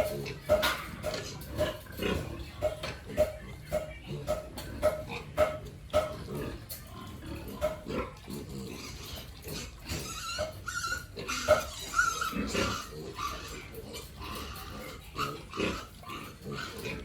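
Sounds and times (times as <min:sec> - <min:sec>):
pigs grunting: 0:00.0 - 0:17.0
pigs squealing: 0:00.0 - 0:17.0.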